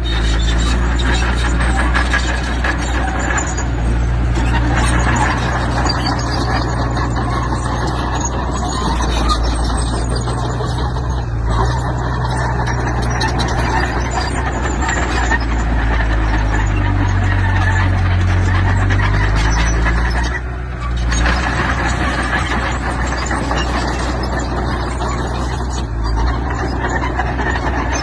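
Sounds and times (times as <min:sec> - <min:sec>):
heavy machinery diesel engine: 0:00.0 - 0:28.0
metallic squealing and clattering: 0:00.0 - 0:28.0.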